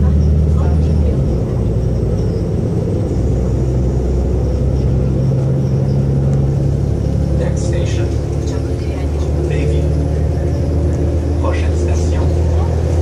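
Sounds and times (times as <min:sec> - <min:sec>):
diesel railcar rumble: 0:00.0 - 0:13.0
higher engine note: 0:00.0 - 0:13.0.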